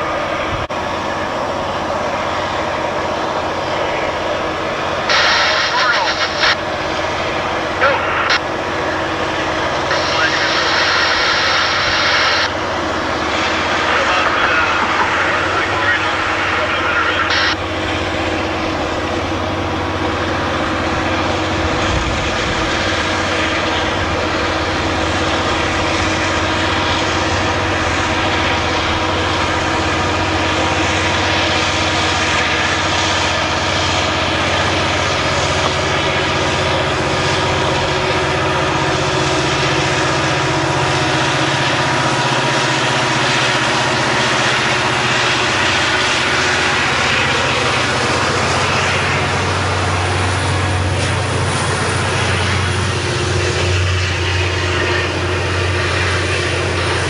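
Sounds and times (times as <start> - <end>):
locomotive engine drone: 0.0 - 57.0
train rolling noise: 0.0 - 57.0.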